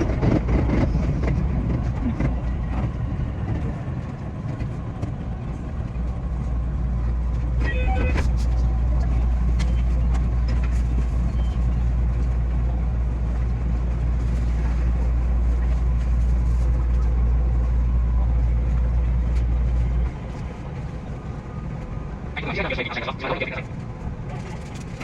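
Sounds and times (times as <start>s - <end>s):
electric train rumble: 0.0s - 25.0s.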